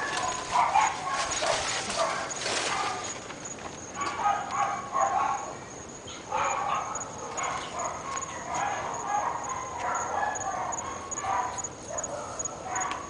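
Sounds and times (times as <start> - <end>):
dogs barking: 0.0 - 3.2, 3.9 - 13.0.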